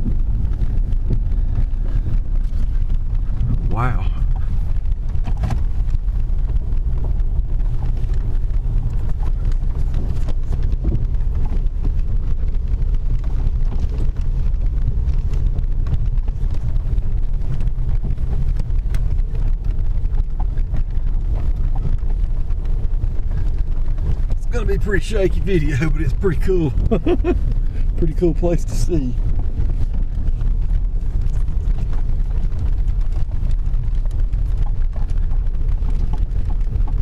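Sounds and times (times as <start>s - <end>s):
truck engine and tyres rumbling: 0.0s - 37.0s.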